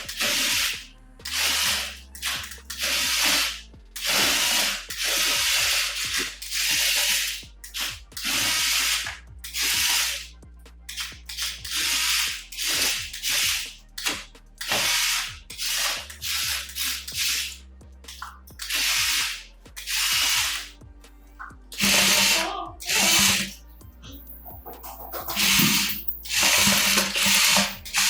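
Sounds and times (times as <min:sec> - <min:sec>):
toy electric motors whirring: 0:00.0 - 0:20.8, 0:21.7 - 0:28.0.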